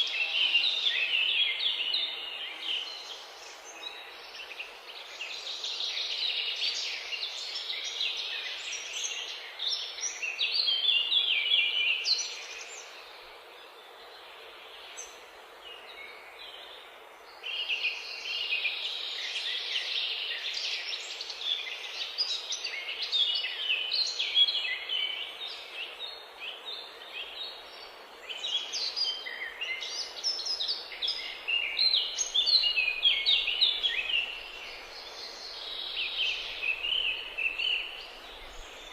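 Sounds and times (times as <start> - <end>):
faint hiss: 0.0 - 38.9
songbirds chirping and trilling: 0.0 - 38.9.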